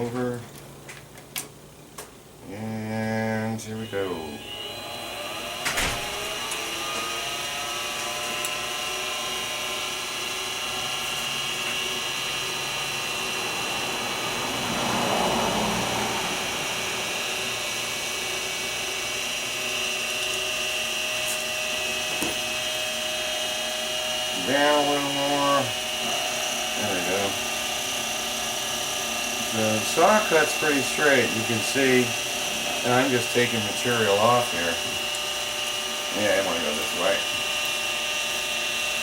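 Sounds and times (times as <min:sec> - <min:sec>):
milling machine motor whine: 0:02.6 - 0:39.0
end mill cutting metal: 0:03.5 - 0:39.0.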